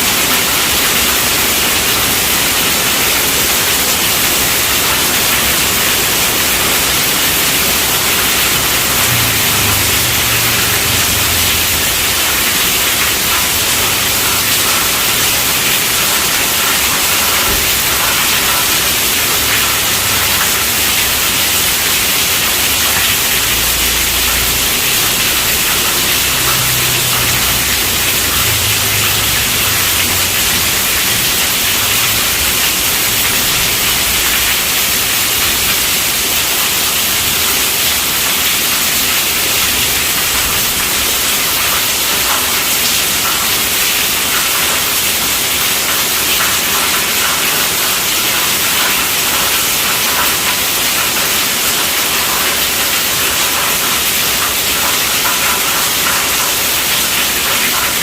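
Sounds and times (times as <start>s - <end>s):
heavy rain on tent roof: 0.0s - 58.0s.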